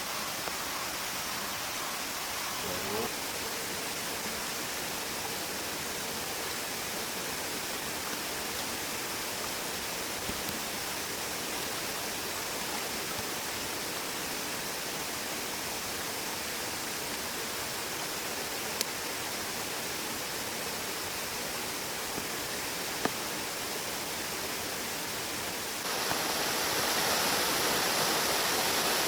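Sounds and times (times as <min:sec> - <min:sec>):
mountain stream flowing: 0:00.0 - 0:29.0.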